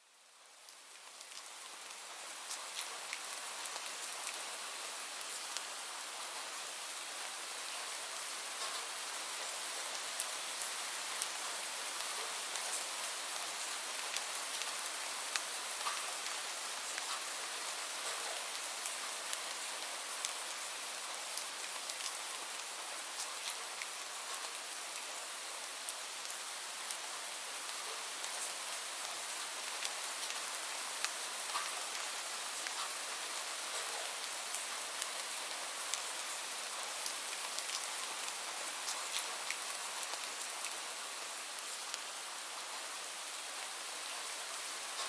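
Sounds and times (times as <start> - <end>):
steady rain hiss: 0.0 - 45.0
raindrops ticking on a surface: 0.5 - 7.5, 8.5 - 42.7, 43.6 - 45.0.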